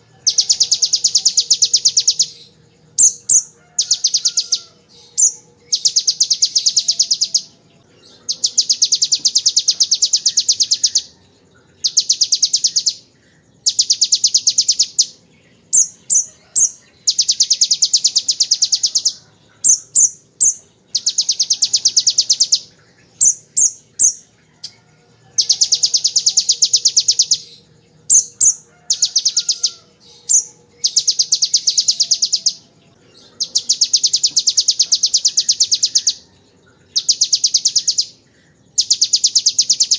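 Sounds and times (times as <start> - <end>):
sharp bird chirps: 0.0 - 39.9.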